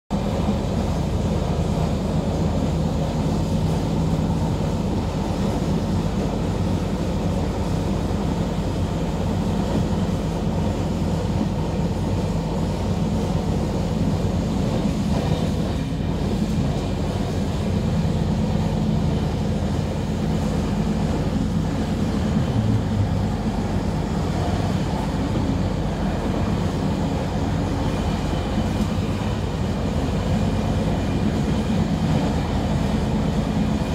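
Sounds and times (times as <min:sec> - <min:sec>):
train wheels rumbling: 0:00.1 - 0:33.9.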